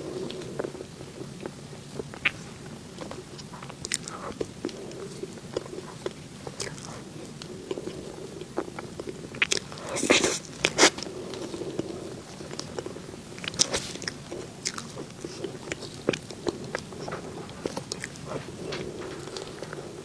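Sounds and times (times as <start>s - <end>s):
soft chewing: 0.0s - 20.0s
mouth clicks and smacks: 0.2s - 19.8s.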